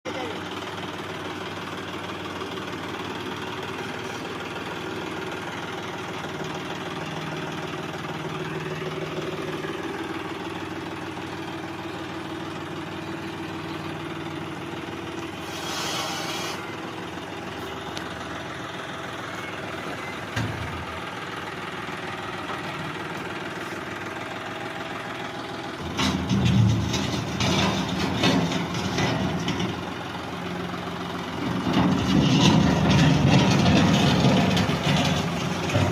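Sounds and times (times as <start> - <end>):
tractor engine running: 0.1 - 35.9.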